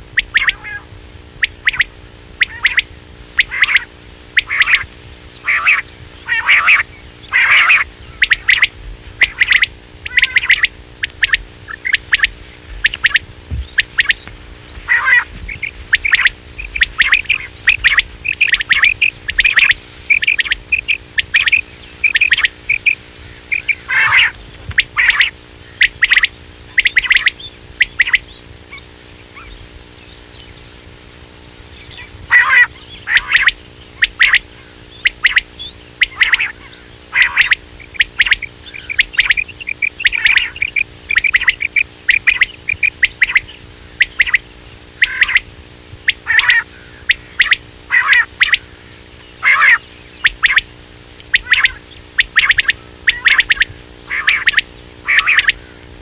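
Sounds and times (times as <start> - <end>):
faint steady hum: 0.0 - 56.0
quail calls: 0.2 - 56.0.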